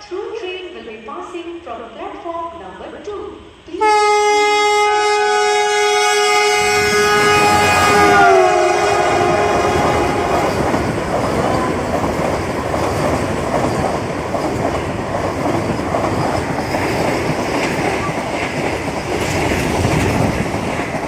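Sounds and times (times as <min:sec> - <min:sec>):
train passing at speed: 0:03.4 - 0:21.0.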